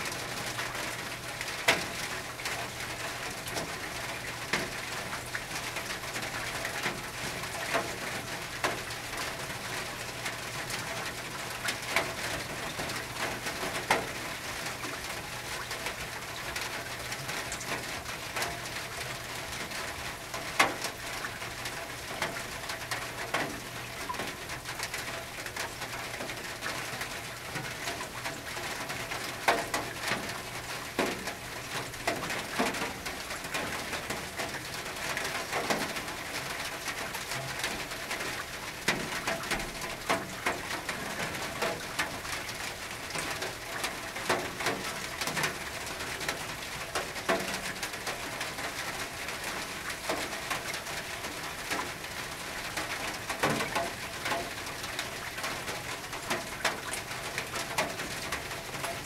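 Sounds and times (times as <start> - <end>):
raindrops knocking on metal: 0.0 - 59.0.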